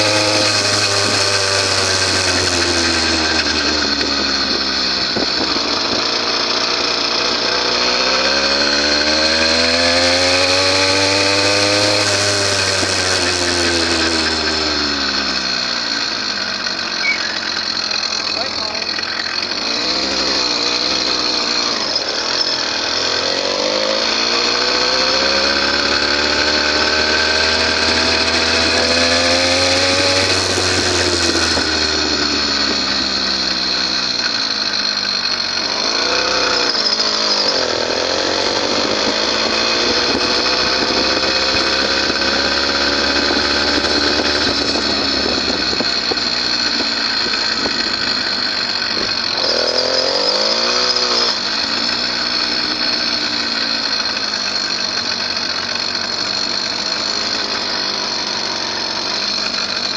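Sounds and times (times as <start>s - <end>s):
small motorbike engine running: 0.0s - 59.9s.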